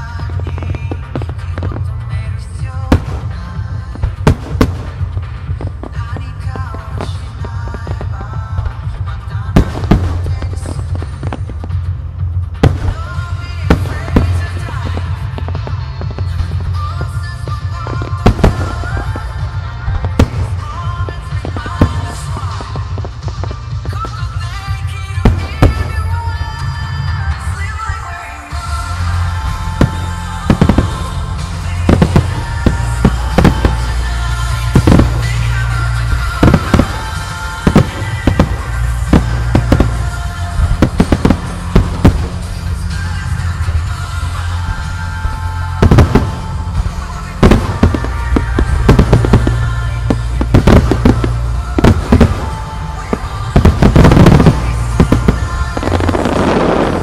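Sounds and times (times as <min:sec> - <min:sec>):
comets firing: 0:00.0 - 0:11.8, 0:12.5 - 0:26.7, 0:29.5 - 0:43.9, 0:45.4 - 0:57.0
firework crackling: 0:00.0 - 0:57.0
music with steady bass: 0:00.0 - 0:57.0.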